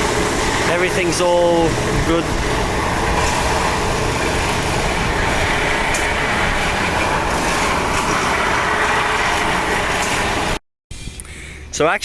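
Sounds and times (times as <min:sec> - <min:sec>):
steady traffic rumble: 0:00.0 - 0:12.0.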